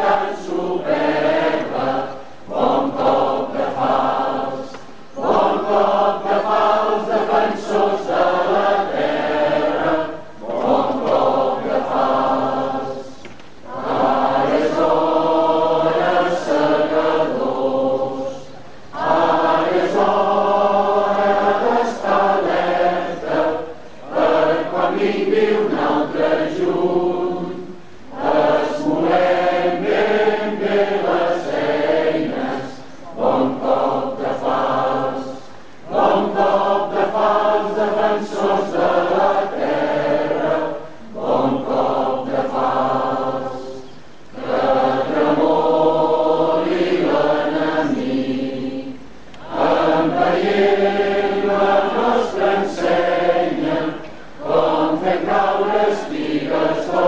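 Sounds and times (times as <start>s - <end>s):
crowd singing: 0.0s - 57.0s.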